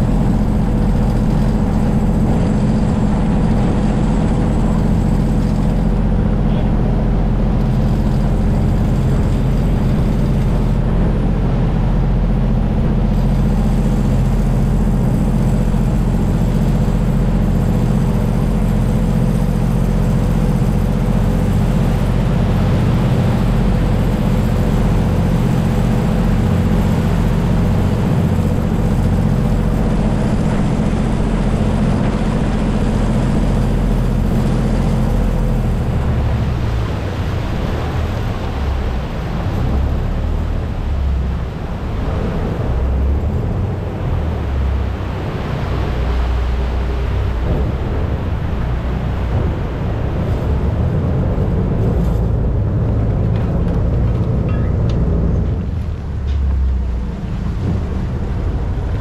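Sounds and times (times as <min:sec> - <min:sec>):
boat diesel engine droning: 0:00.0 - 0:59.0.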